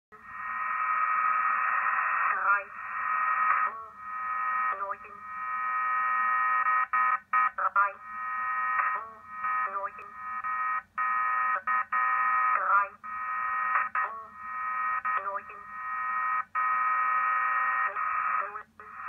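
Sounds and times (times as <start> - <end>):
buzzing radio tone: 0.1 - 19.0.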